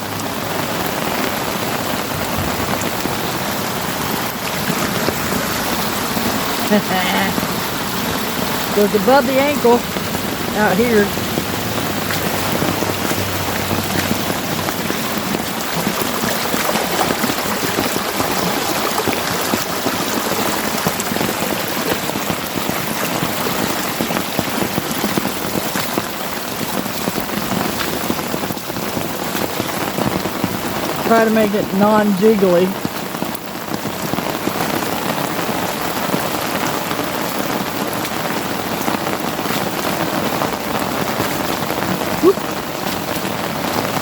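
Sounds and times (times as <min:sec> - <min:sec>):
steady rain on water: 0:00.0 - 0:44.0.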